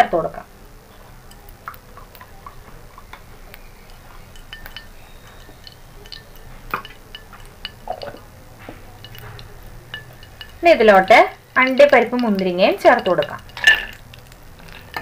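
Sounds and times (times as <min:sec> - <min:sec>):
ghee crackling in a hot pan: 0:00.0 - 0:15.0
spoon knocking against pan: 0:01.3 - 0:15.0.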